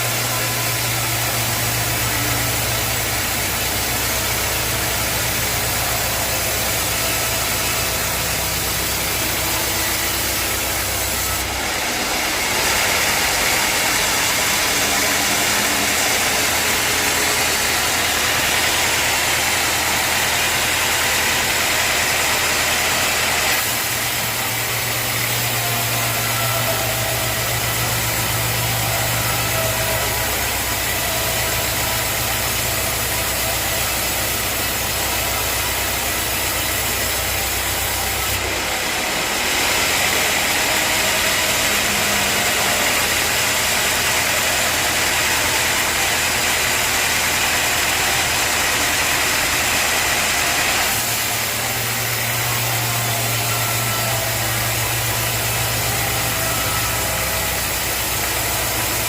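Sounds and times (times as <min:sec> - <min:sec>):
machinery hiss: 0:00.0 - 0:59.0
sawmill machinery drone: 0:00.0 - 0:59.0.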